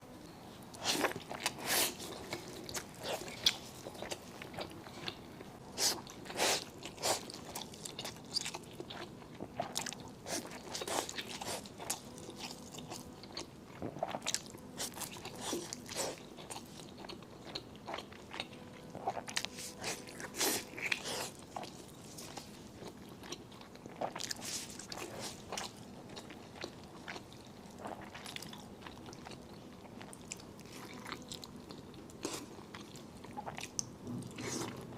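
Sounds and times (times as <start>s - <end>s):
person chewing noodles: 0.7s - 34.9s.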